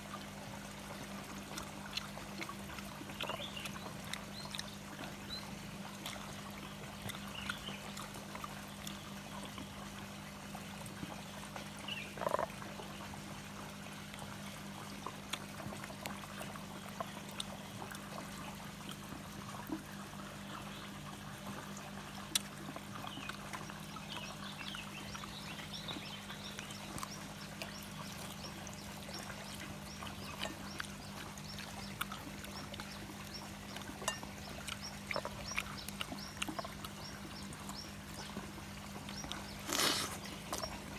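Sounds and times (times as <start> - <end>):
steady low hum: 0.0 - 40.9
water trickling: 0.0 - 40.9.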